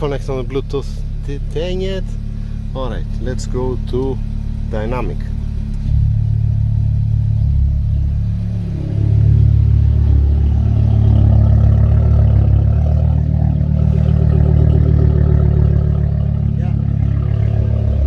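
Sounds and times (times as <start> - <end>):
car engine idling through exhaust: 0.0 - 18.0.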